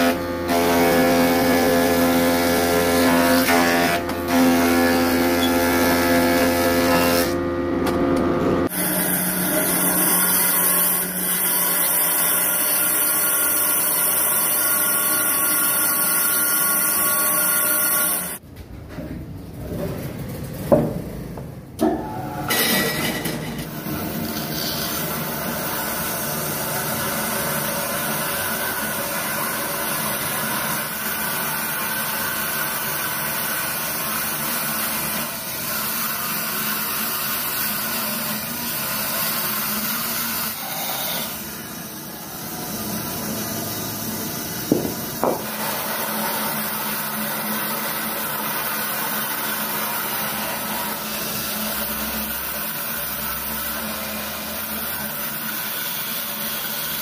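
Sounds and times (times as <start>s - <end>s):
bandsaw cutting wood: 0.0s - 18.4s, 22.5s - 57.0s.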